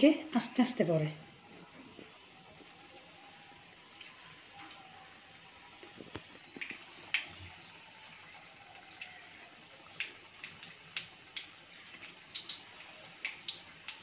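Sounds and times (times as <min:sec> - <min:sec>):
fritters sizzling in hot oil: 0:00.0 - 0:14.0
oil crackling and popping: 0:01.4 - 0:14.0.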